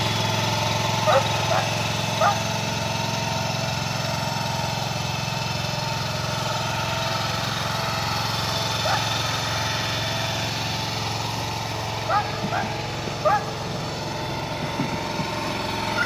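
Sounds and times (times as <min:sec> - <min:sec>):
compact loader engine running: 0:00.0 - 0:16.0.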